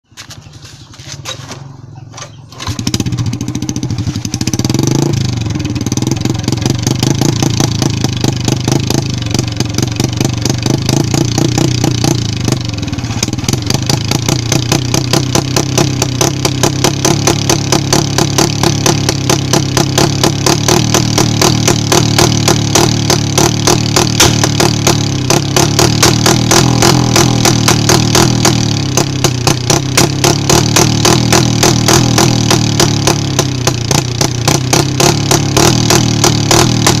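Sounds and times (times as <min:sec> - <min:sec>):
motorcycle engine revving: 0:00.2 - 0:37.0.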